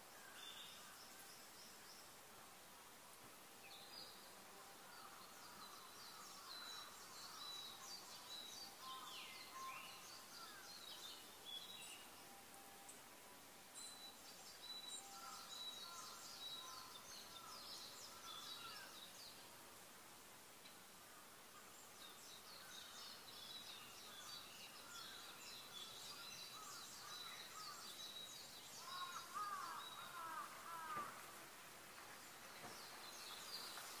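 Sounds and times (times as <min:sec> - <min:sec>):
steady hiss: 0:00.0 - 0:34.0
birds chirping and trilling: 0:03.7 - 0:13.1, 0:13.7 - 0:19.5, 0:21.2 - 0:34.0.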